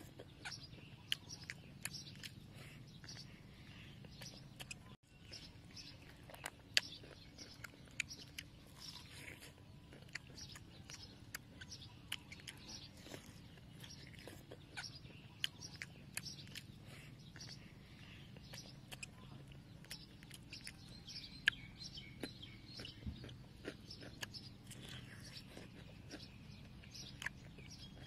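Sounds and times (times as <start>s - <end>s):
crunchy chewing: 0.0s - 28.0s
faint birds chirping: 0.0s - 28.0s.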